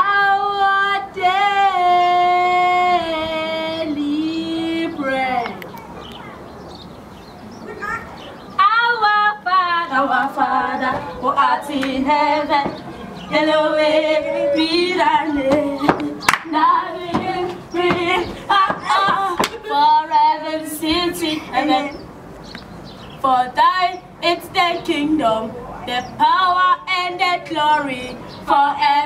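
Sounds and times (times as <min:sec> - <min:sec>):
girls singing unaccompanied: 0:00.0 - 0:05.8, 0:08.5 - 0:22.2, 0:23.1 - 0:29.0.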